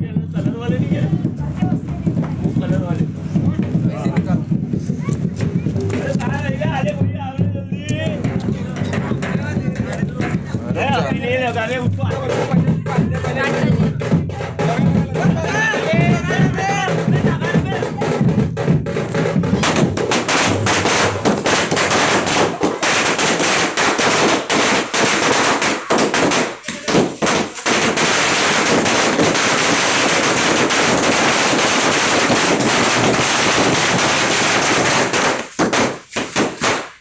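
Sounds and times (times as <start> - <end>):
firecrackers going off: 0.3 - 7.1, 7.9 - 37.0.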